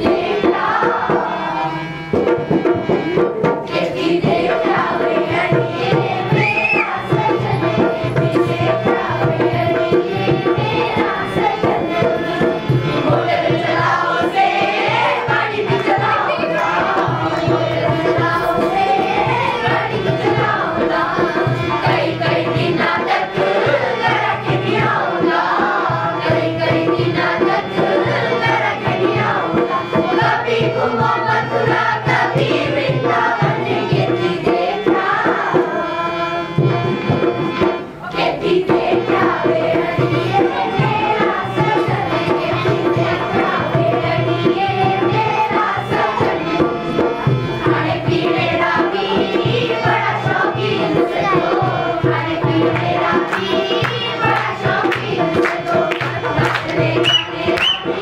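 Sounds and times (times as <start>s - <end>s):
hand drums: 0.0s - 35.9s, 36.5s - 58.0s.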